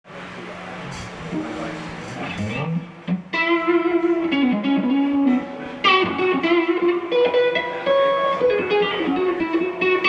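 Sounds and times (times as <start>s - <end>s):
electric guitar through amplifier: 0.8s - 10.0s.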